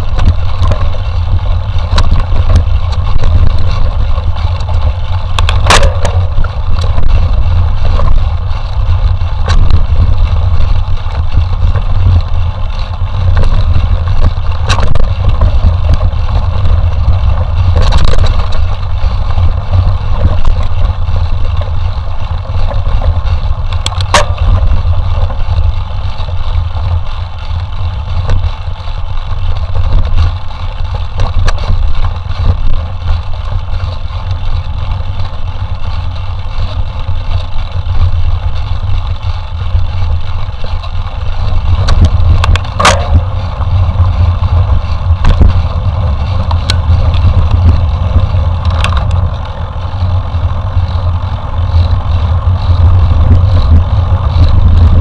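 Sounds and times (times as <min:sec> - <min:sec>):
bike rattling: 0:00.0 - 0:55.0
wind rumble on microphone: 0:00.0 - 0:55.0.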